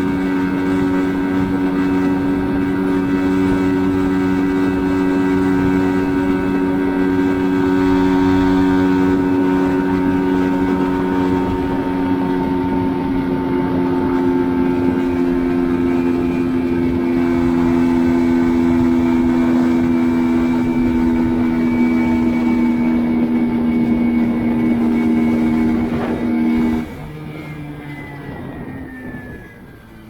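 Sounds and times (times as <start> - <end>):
small motorcycle engine running: 0.0 - 30.0.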